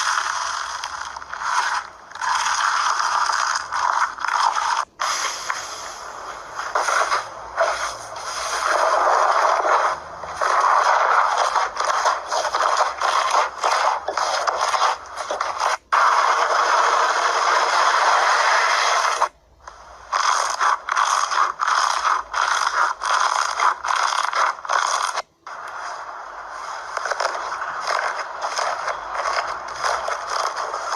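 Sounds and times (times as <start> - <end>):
slime crackling and scraping: 0.0 - 19.3, 20.0 - 30.9.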